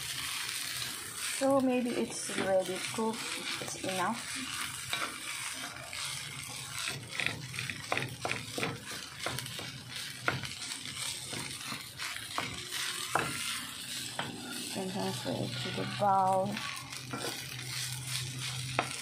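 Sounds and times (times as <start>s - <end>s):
frying sizzle: 0.0s - 19.0s
spatula scraping in a wok: 0.0s - 19.0s.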